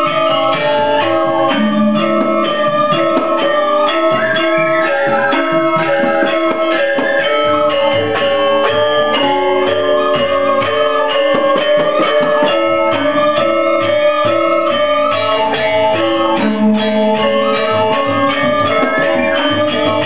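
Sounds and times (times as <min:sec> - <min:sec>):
gamelan orchestra playing: 0:00.0 - 0:20.0.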